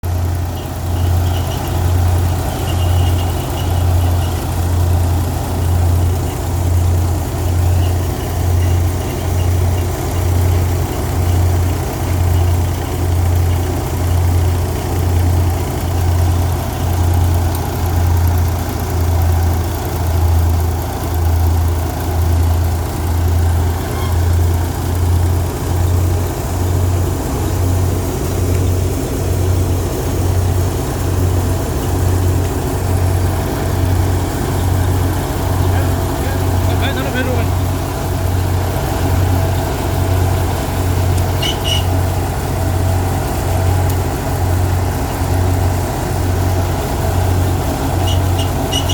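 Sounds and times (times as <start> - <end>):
threshing machine humming: 0.0 - 48.9.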